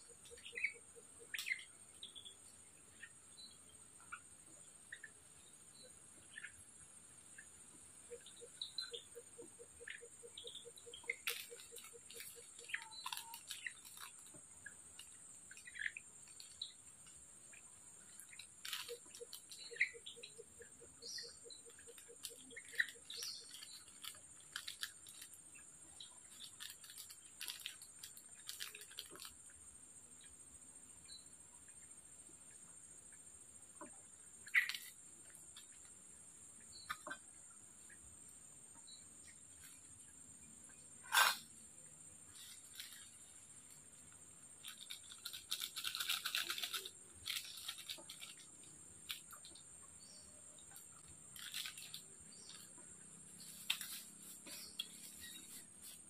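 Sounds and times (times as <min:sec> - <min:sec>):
bird chirps: 0:00.0 - 0:29.3, 0:33.8 - 0:35.9, 0:36.6 - 0:38.1, 0:42.1 - 0:56.0
insects droning: 0:00.0 - 0:56.0.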